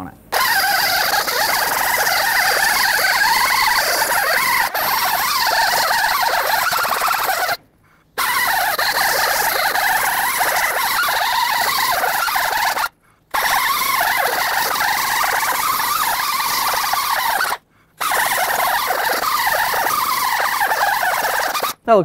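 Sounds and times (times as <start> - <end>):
air sander grinding metal: 0.3 - 7.6, 8.2 - 21.8.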